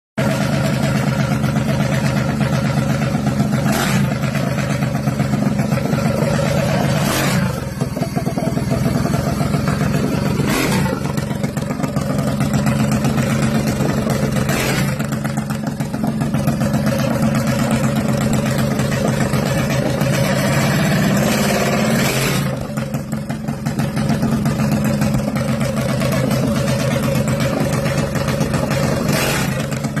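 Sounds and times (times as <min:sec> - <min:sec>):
racing engine running: 0:00.2 - 0:30.0
engine throttle blips: 0:03.5 - 0:30.0.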